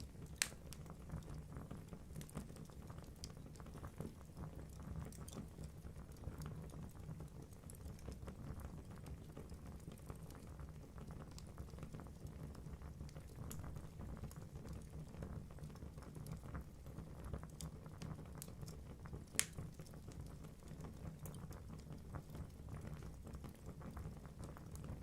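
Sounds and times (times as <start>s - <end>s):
fire crackling in fireplace: 0.0s - 25.0s.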